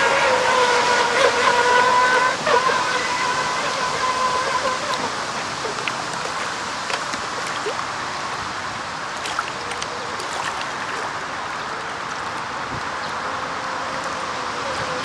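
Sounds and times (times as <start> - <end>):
hulls spraying water: 0.0 - 15.0
radio-controlled boat engines buzzing: 0.0 - 15.0.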